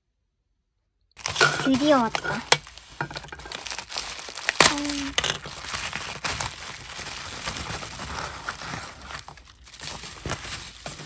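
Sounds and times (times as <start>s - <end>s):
plastic packaging crinkling: 1.2s - 11.0s.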